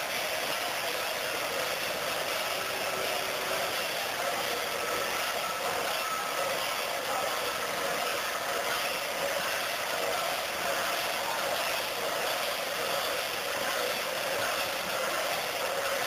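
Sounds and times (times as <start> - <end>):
crowd hubbub: 0.0 - 16.0.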